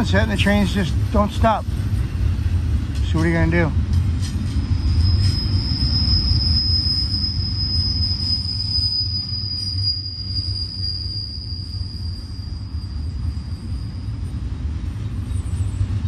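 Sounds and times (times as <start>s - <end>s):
steel wheels squealing on rail: 0.0s - 16.0s
train cars rumbling: 0.0s - 16.0s.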